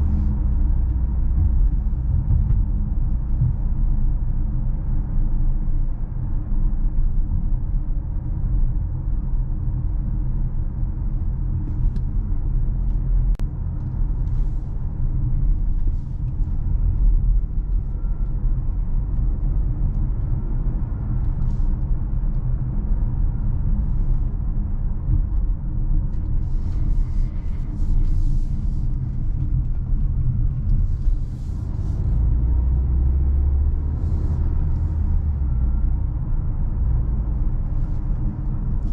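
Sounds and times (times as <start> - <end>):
deep steady drone: 0.0 - 38.9
engine and road noise rumble: 0.0 - 38.9.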